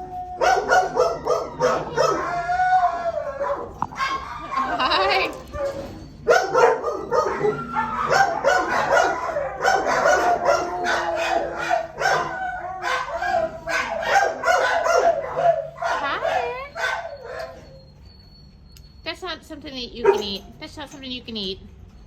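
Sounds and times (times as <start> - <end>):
dogs barking and yipping: 0.0 - 18.7, 20.0 - 20.6.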